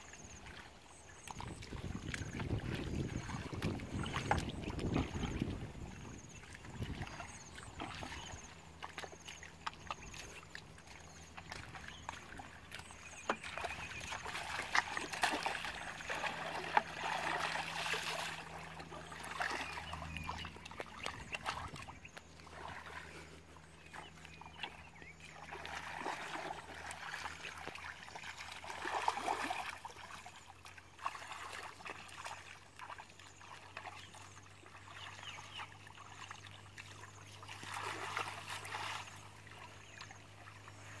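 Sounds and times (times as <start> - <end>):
muddy water splashing: 0.0 - 41.0.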